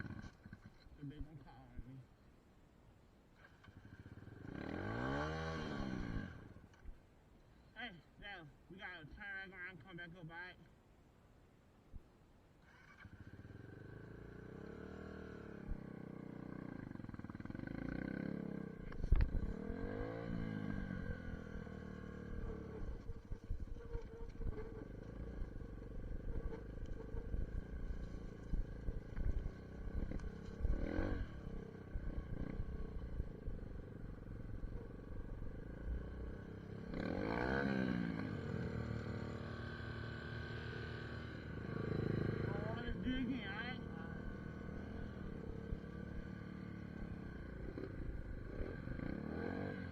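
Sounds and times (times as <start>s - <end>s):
dirt bike engine revving: 3.4s - 6.5s, 12.6s - 49.9s.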